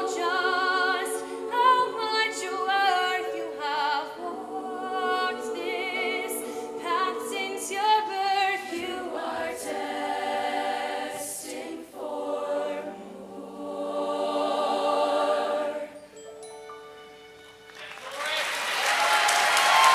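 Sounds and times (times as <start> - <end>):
choir singing in harmony: 0.0 - 16.2.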